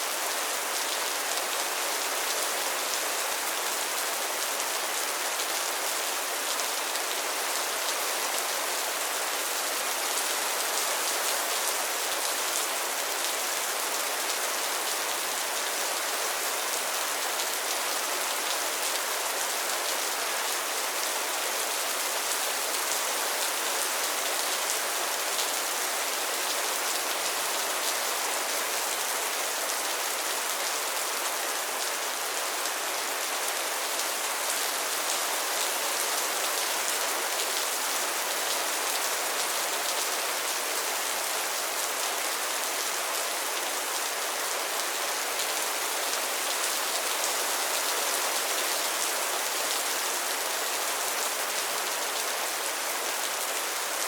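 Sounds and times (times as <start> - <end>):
rain falling on pond water: 0.0 - 54.0.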